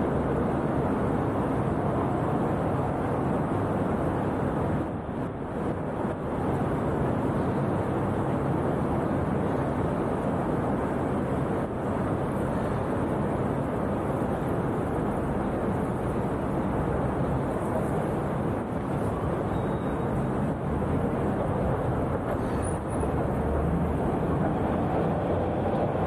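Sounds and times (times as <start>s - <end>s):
low rumbling city ambience: 0.0s - 26.0s.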